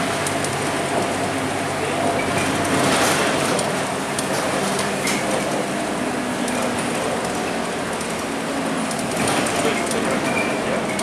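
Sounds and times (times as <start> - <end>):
bus diesel engine running: 0.0 - 11.0
rattles from bus body: 1.9 - 11.0.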